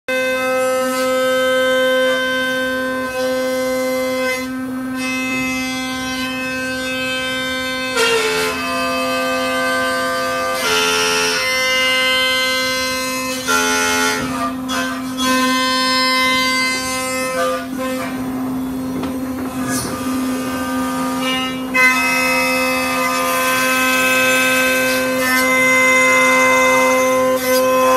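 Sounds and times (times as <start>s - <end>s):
bagpipe drone and melody: 0.1s - 27.9s.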